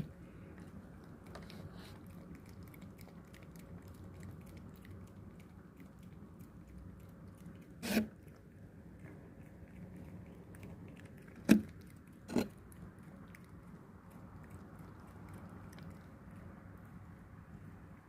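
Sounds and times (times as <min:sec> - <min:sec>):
cat chewing food: 0:00.0 - 0:18.0.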